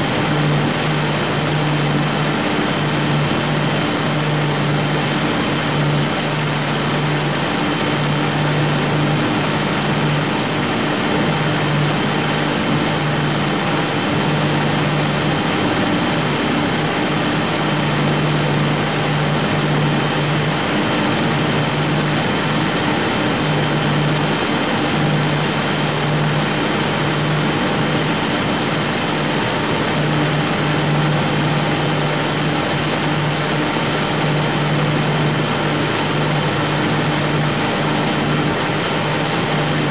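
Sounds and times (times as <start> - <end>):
motorboat engines running: 0.0 - 39.9.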